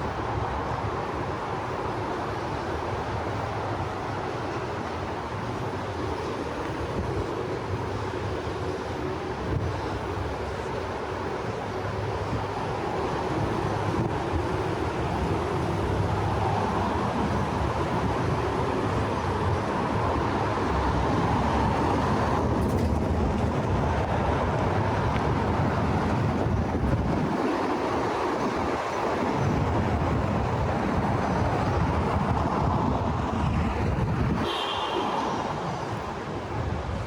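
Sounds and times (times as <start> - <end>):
city street traffic: 0.0 - 37.0.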